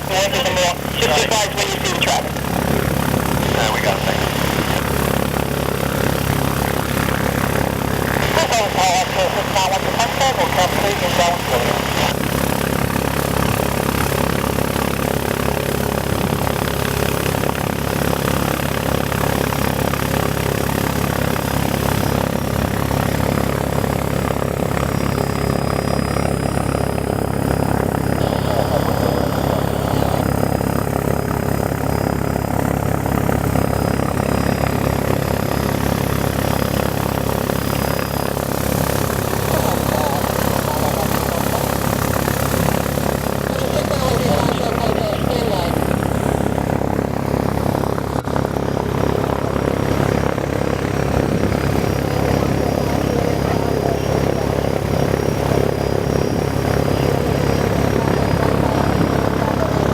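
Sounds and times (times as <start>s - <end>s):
propeller aircraft engine droning: 0.0s - 59.9s.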